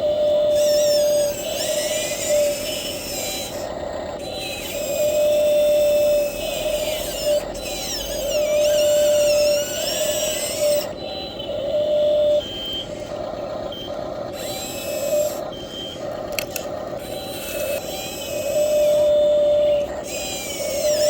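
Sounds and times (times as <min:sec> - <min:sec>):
electric motors whining: 0:00.0 - 0:21.0.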